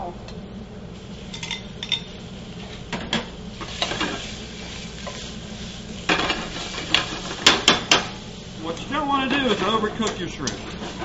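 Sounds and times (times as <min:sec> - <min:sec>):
shrimp sizzling in hot oil: 0:01.0 - 0:11.0.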